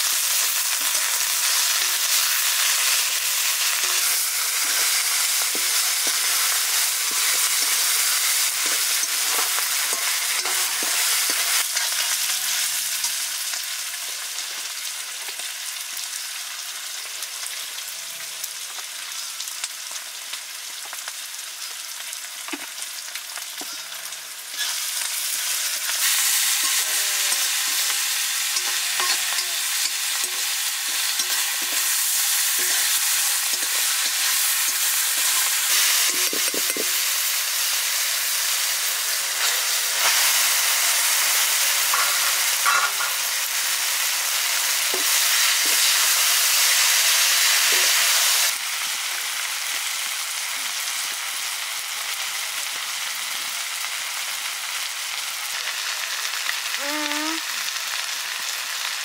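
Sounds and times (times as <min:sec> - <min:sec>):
noodles sizzling in a pan: 0:00.0 - 0:59.0.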